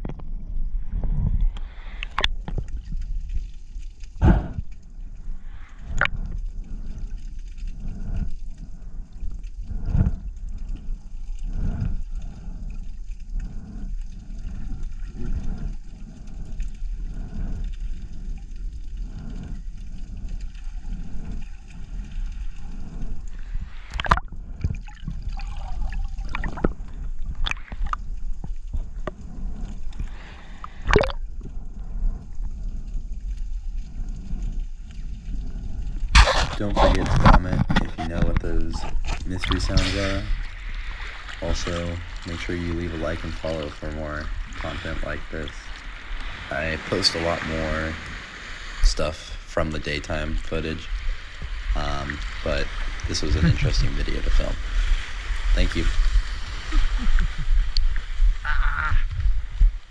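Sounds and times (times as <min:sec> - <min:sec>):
steady low rumble: 0:00.0 - 0:59.9
underwater croaking pulses: 0:01.4 - 0:59.9.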